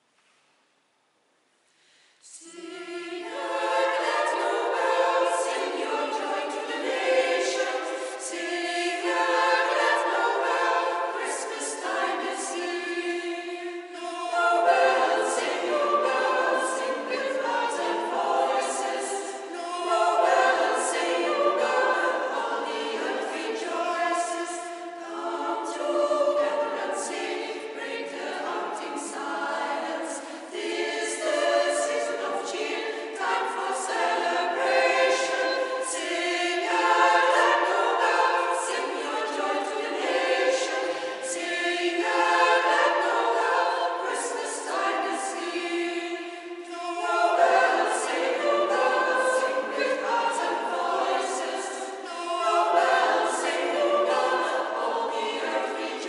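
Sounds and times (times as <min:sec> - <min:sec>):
choir singing: 0:02.2 - 0:56.0.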